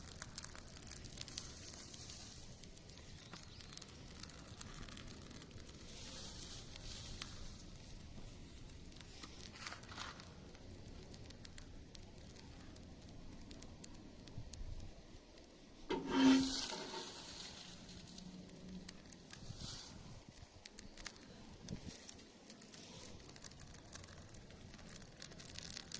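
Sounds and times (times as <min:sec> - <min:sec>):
fire hissing: 0:00.0 - 0:25.9
wood fire crackling: 0:00.0 - 0:25.9.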